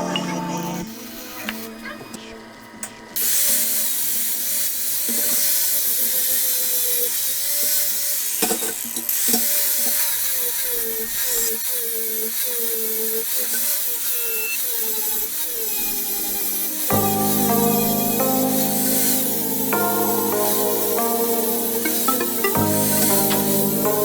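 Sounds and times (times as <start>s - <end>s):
power tool whining: 3.2s - 24.0s.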